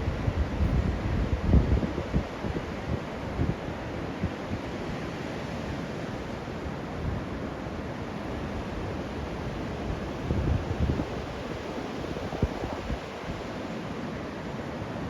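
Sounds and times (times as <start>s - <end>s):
wind buffeting the microphone: 0.0s - 7.4s, 8.1s - 13.8s
sea waves washing onto sand: 0.0s - 15.0s.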